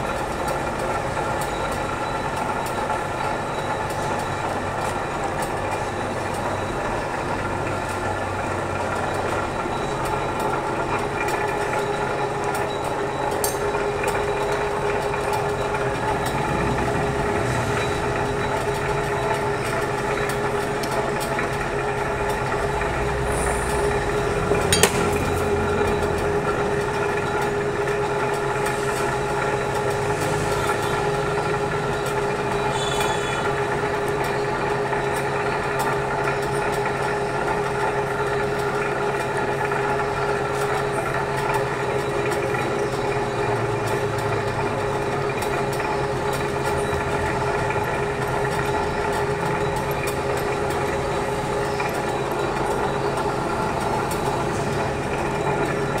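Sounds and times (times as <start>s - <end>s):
metal lathe humming: 0.3s - 56.0s.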